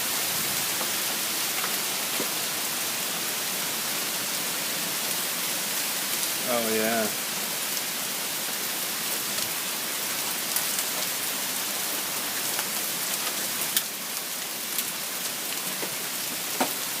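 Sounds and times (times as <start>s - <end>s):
rain and hail hitting ground: 0.0s - 17.0s.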